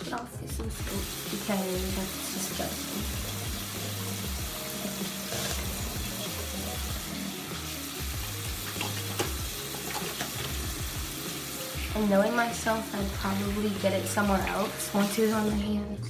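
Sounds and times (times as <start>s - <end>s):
soft background music: 0.0s - 16.0s
tap water running into sink: 0.6s - 15.7s.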